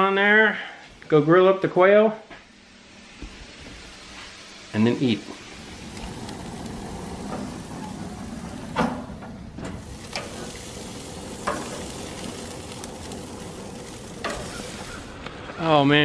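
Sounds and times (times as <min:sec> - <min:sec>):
meat sizzling on a grill: 0:02.6 - 0:16.0.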